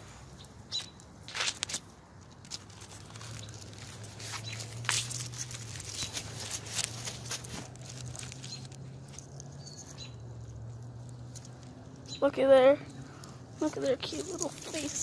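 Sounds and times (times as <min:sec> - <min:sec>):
branches and needles rustling: 0:00.0 - 0:15.0.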